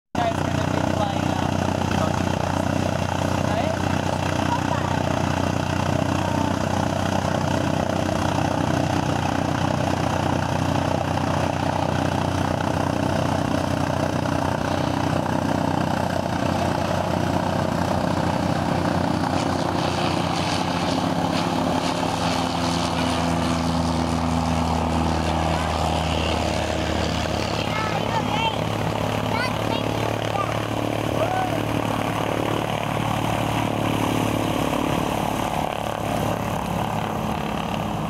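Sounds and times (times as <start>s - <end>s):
propeller plane engine: 0.1s - 38.0s.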